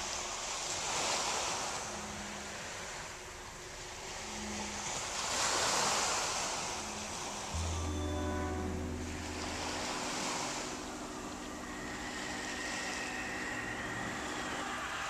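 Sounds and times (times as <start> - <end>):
low steady hum: 0.0 - 15.0
small waves on sandy beach: 0.0 - 15.0.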